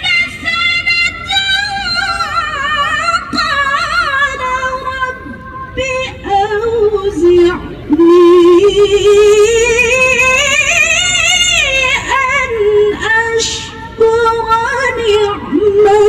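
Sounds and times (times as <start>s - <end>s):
woman reciting melodically: 0.0s - 16.0s.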